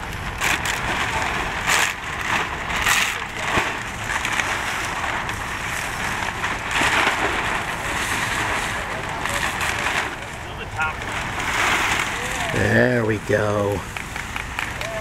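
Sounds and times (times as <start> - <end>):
plastic sheet rustling: 0.0 - 15.0.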